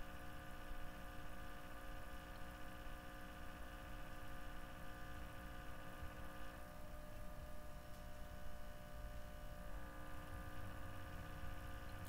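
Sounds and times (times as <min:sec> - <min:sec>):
low background hum and hiss: 0:00.0 - 0:12.0.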